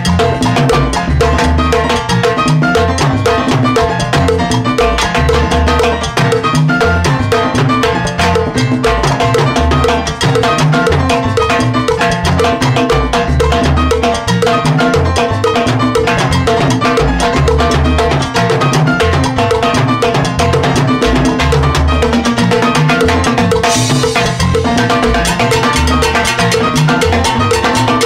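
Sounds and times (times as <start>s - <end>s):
repeating bass line: 0.0s - 28.0s.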